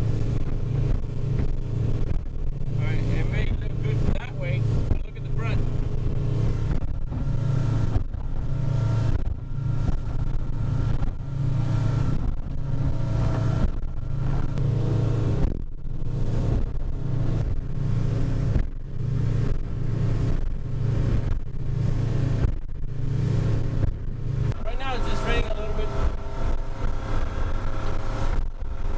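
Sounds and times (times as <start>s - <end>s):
outboard motor running: 0.0s - 28.9s.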